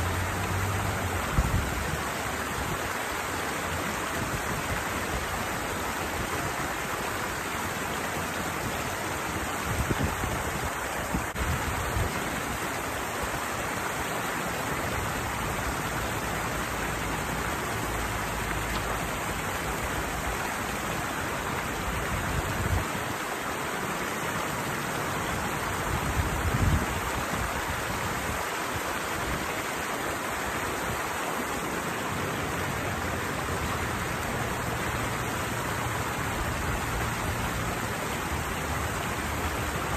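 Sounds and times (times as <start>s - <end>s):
water rushing over small waterfall: 0.0s - 39.9s.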